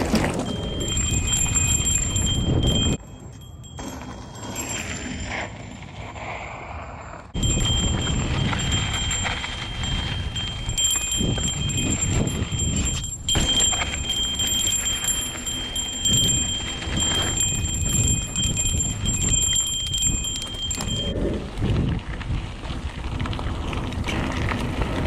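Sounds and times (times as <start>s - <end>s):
wind rumbling on microphone: 0.0s - 3.0s, 7.1s - 25.0s
bike tyres crunching over dirt: 0.0s - 25.0s.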